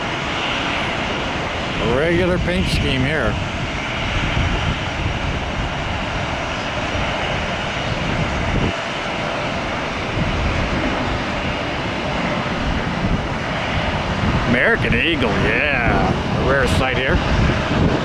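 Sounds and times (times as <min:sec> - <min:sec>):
jet engines: 0:00.0 - 0:18.0.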